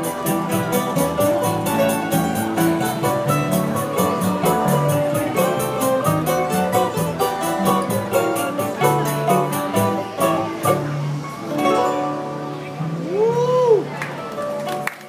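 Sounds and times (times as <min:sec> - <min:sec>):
plucked double bass: 0:00.0 - 0:14.9
acoustic guitar: 0:00.0 - 0:15.0
cavaquinho strumming: 0:00.0 - 0:15.0
mandolin: 0:00.0 - 0:15.0.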